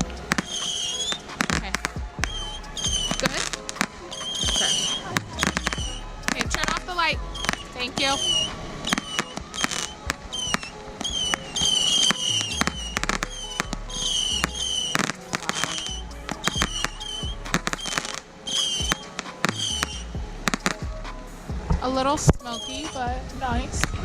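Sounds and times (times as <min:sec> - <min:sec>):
firework pops and bangs: 0:00.0 - 0:20.9.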